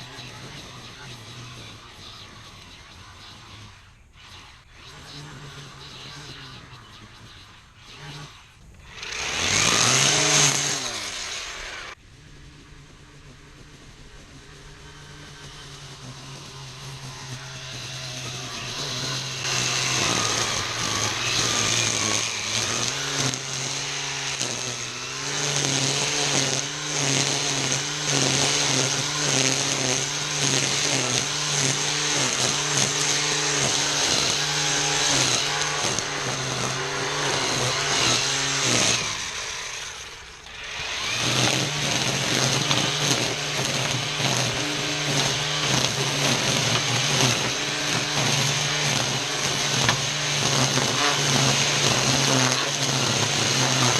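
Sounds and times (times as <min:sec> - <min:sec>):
string trimmer cutting weeds: 0:00.0 - 0:53.9.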